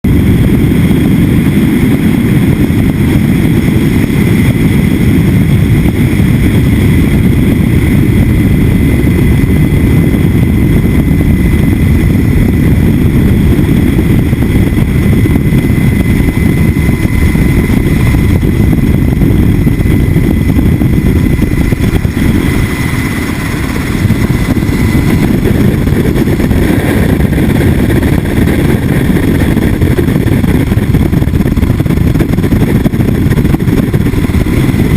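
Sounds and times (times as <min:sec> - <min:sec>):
helicopter rotor and engine: 0:00.0 - 0:34.9
thin high whine: 0:00.1 - 0:34.9.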